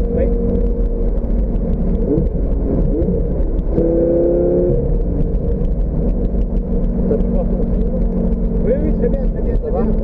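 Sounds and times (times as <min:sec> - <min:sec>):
road and wind noise: 0:00.0 - 0:10.0
sports car engine running: 0:00.0 - 0:10.0.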